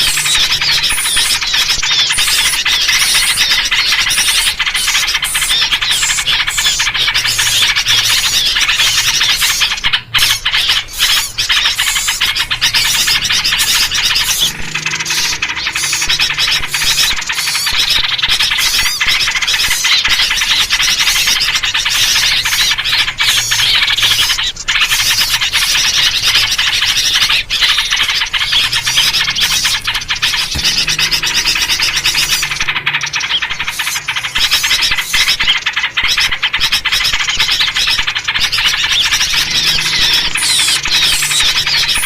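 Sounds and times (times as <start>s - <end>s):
bulbul calls: 0.0s - 42.0s
many small birds chirping: 0.0s - 42.0s.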